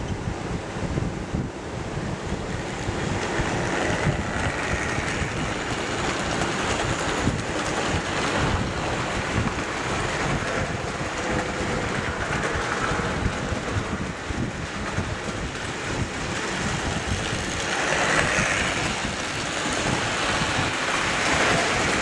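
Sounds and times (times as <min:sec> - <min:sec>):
model train motor whirring: 0:02.2 - 0:22.0.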